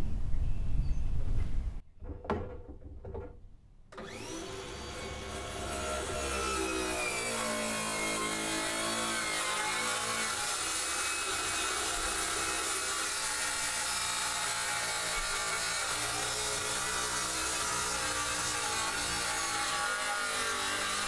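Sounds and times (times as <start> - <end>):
circular saw cutting wood: 4.0 - 21.0.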